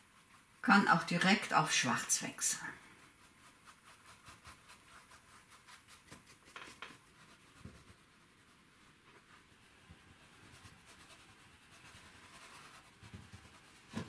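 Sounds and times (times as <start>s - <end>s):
brush dabbing on canvas: 0.0s - 14.0s.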